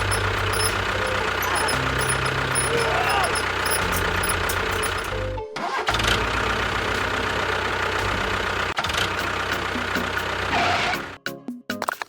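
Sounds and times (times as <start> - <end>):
engine running: 0.0 - 11.2.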